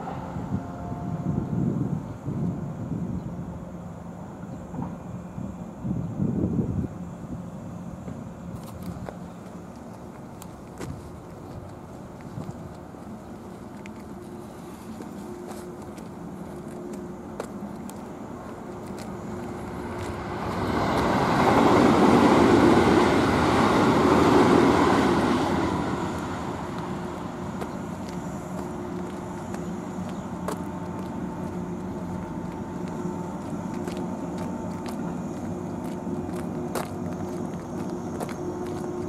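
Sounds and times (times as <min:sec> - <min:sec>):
electric train motor hum: 0:00.0 - 0:39.0.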